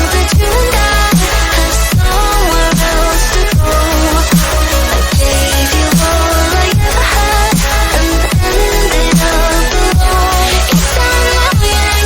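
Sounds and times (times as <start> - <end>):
electronic music with bass beat: 0.0 - 12.0.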